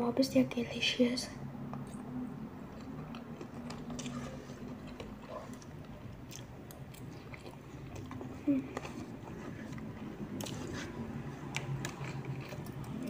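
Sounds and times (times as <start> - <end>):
low steady hum: 0.0 - 13.0
person chewing noodles: 1.7 - 13.0.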